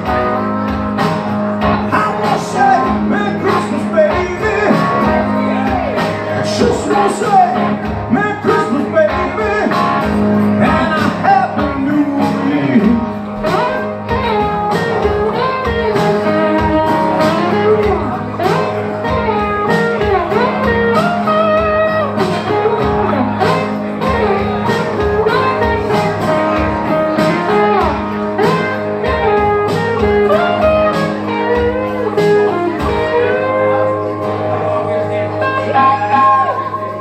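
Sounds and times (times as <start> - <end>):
lead guitar bending notes: 0.0 - 37.0
strummed rhythm guitar chords: 0.0 - 37.0.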